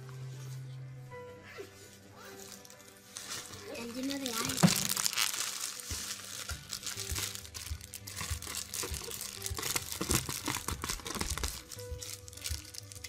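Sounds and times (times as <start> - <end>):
plastic packaging crinkling: 2.2 - 13.0.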